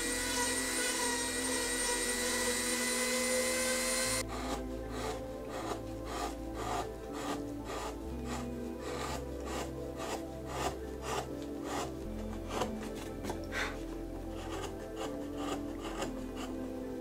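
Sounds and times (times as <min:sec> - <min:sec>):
hand gouge scraping wood: 0:00.0 - 0:16.6
soft background music: 0:00.0 - 0:17.0.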